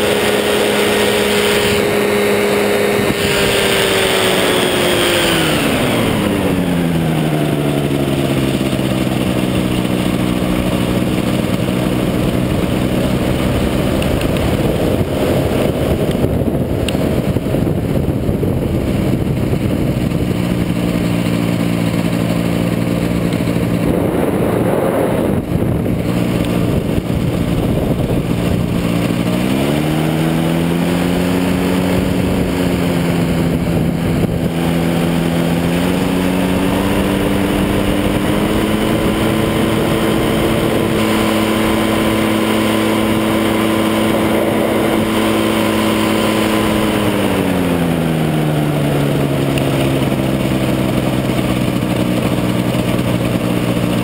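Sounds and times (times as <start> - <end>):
propeller engine running: 0.0 - 54.0
wind on microphone: 0.0 - 54.0.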